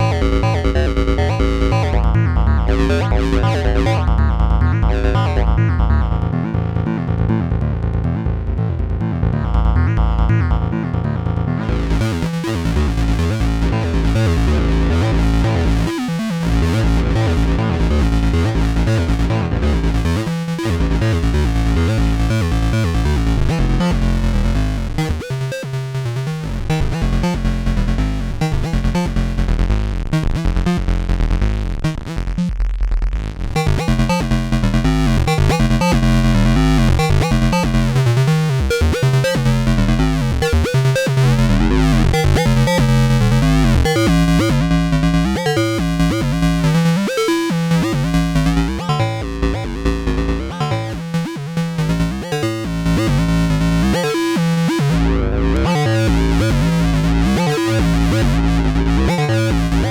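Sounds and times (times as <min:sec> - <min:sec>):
synthesizer bass pattern: 0:00.0 - 0:59.9.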